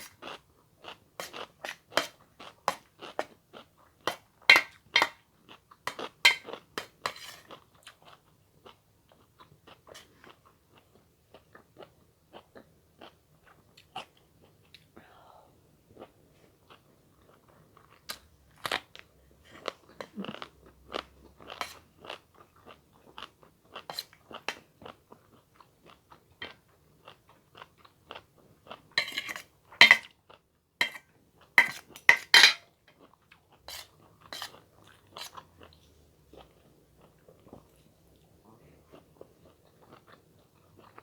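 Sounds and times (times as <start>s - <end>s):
chewing and crunching food: 0.0s - 15.0s, 15.9s - 41.0s.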